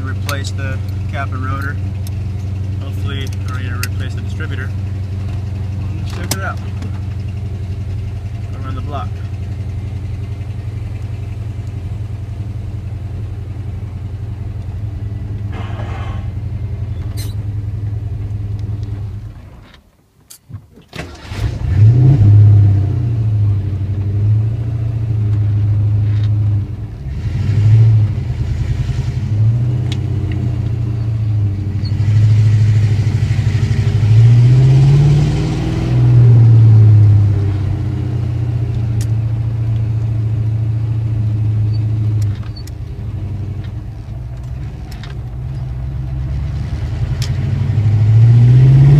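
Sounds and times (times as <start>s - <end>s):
car engine idling and revving: 0.0s - 19.9s, 21.0s - 48.9s.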